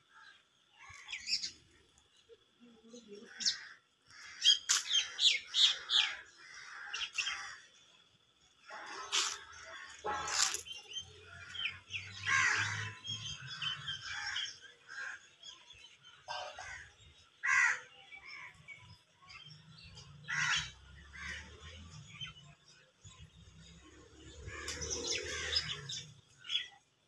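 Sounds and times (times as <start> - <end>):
harsh bird calls: 0.0 - 26.8.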